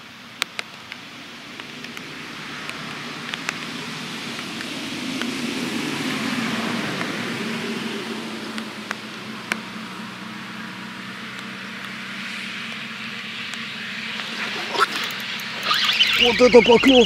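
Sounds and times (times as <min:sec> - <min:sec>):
distant vehicle passing: 0:00.7 - 0:17.0.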